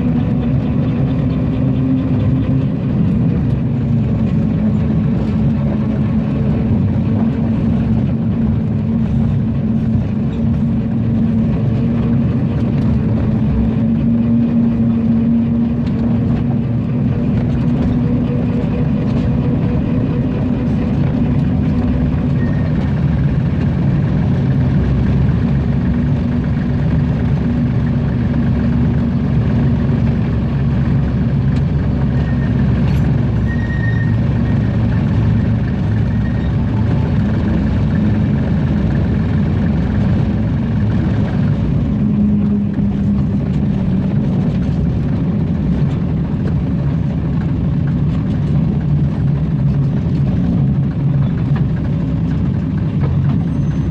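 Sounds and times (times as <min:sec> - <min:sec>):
diesel locomotive engine running: 0:00.0 - 0:53.9.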